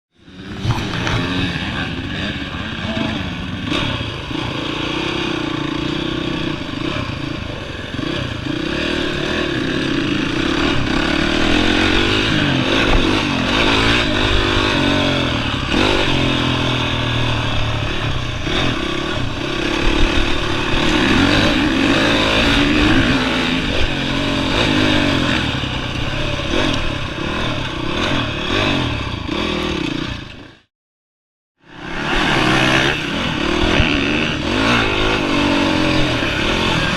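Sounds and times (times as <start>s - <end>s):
motocross bike engine revving: 0.1s - 30.7s, 31.6s - 36.9s.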